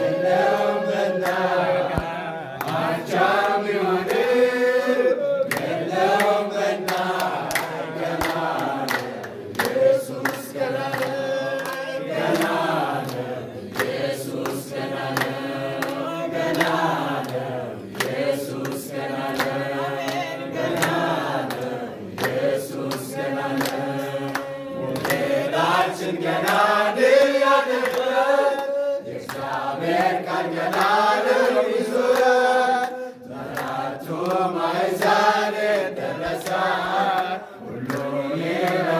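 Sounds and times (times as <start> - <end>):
congregation singing: 0.0 - 38.9
hand clapping: 0.0 - 38.9.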